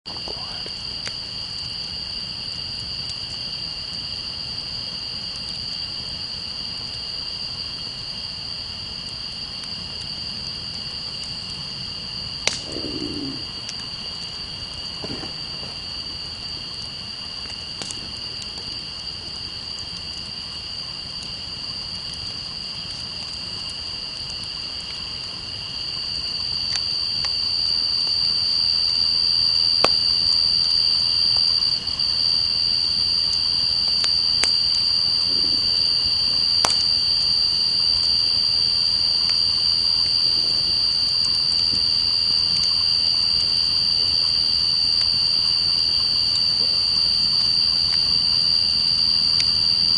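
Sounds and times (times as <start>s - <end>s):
campfire crackling and popping: 0.1s - 49.9s
night insects chorus: 0.1s - 49.9s.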